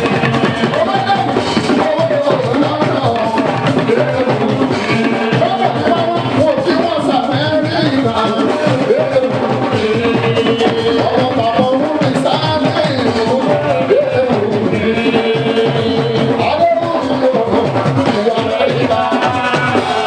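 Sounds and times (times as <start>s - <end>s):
drum and percussion groove: 0.0s - 20.0s
person singing: 0.0s - 20.0s.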